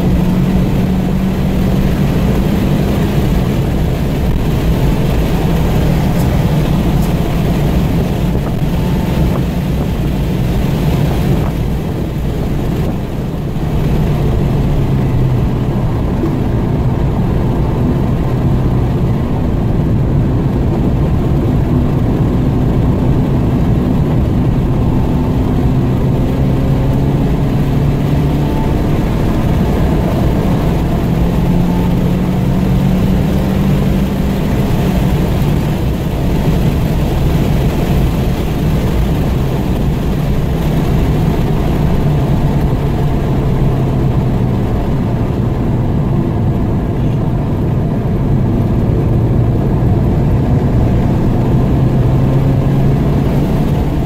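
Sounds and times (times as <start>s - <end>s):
car engine revving: 0.0s - 54.0s
tyre and wind noise: 0.0s - 54.0s.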